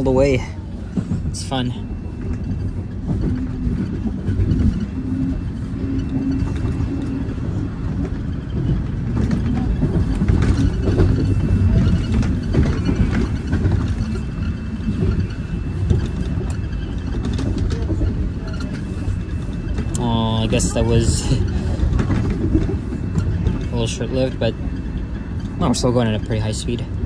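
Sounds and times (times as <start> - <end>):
subway train rumbling: 0.0 - 27.0
wheel-on-rail clicks: 0.0 - 27.0.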